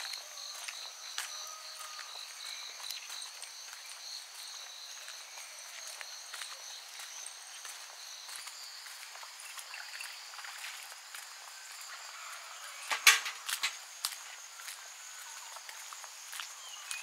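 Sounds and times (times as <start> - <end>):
crickets chirring: 0.0 - 17.0
soft footsteps on a path: 0.0 - 17.0.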